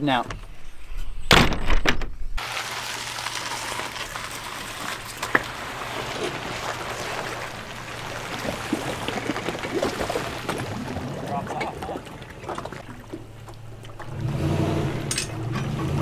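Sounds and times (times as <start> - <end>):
water splashing and trickling: 2.4 - 16.0.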